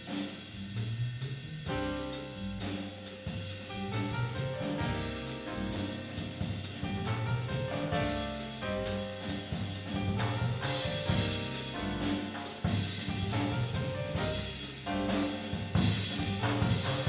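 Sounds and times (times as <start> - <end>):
jazz band playing live: 0.0 - 17.0.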